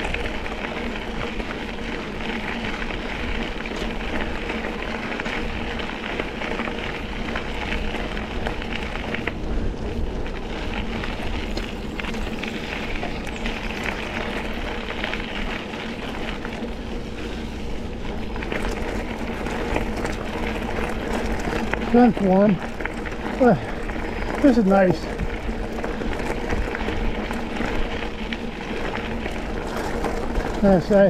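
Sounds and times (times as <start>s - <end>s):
bike tyres on gravel: 0.0s - 31.0s.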